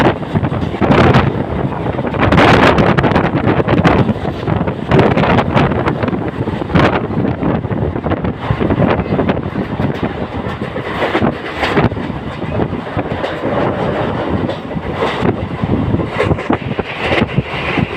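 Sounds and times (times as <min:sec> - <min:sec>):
train wheels clattering on rails: 0:00.0 - 0:17.9.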